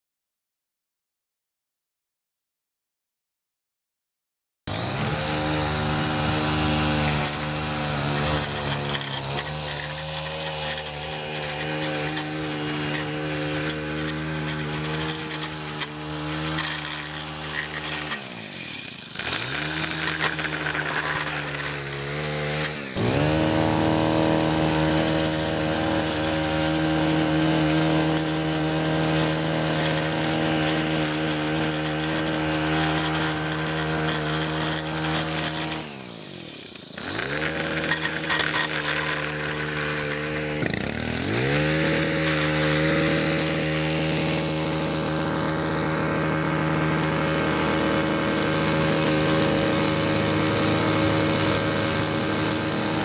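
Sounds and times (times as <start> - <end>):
edger small engine revving: 4.7 - 53.0.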